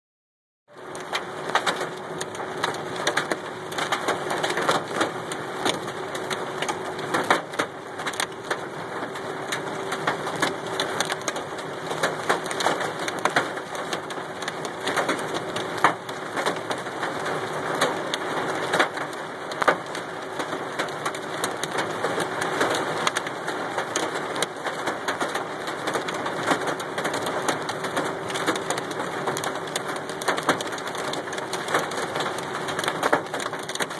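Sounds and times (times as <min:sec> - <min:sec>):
hail clattering on car roof: 0:00.8 - 0:33.9.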